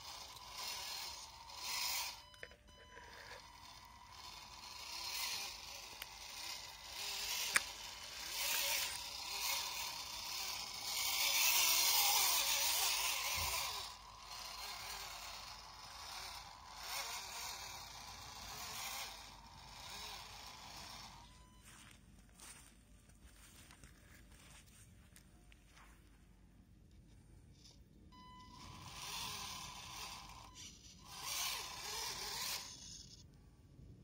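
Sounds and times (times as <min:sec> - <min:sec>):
toy truck motor whining: 0:00.0 - 0:21.9, 0:26.8 - 0:33.4.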